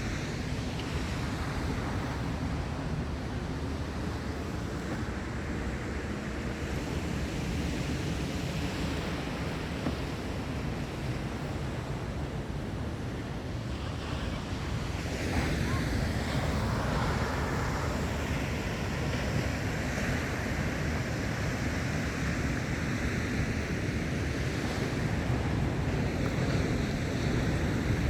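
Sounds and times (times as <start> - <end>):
waves breaking on sandy beach: 0.0 - 28.0.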